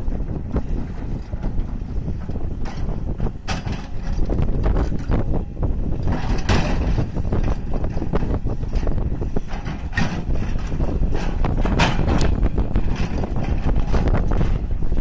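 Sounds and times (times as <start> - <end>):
excavator diesel engine running: 0.0 - 15.0
wind buffeting microphone: 0.0 - 15.0.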